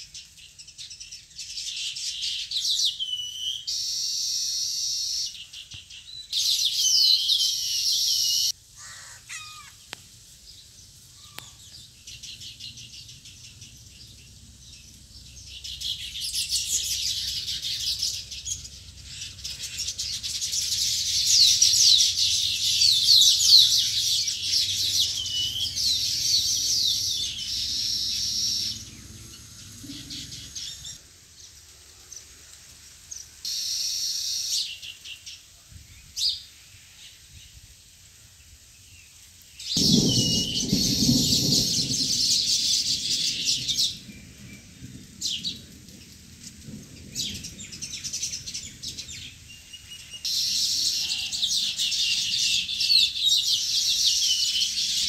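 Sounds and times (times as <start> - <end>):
birds chirping chorus: 0.0 - 32.4, 38.8 - 55.0.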